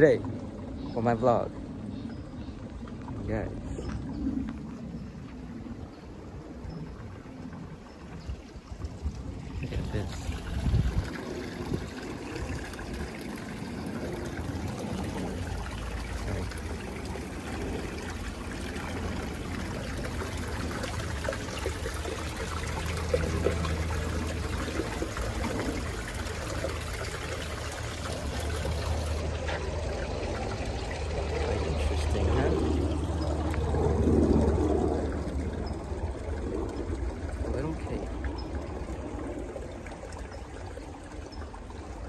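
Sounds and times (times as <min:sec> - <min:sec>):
stream splashing over rocks: 0:08.1 - 0:42.0.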